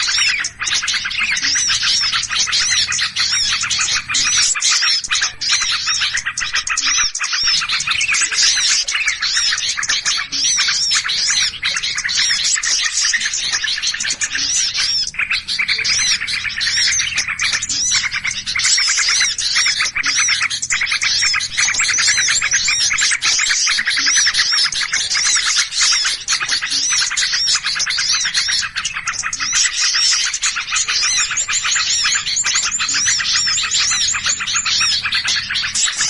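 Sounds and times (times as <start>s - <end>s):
high rising and falling bird call: 0.0s - 36.0s
songbirds chirping and chattering: 0.0s - 36.0s.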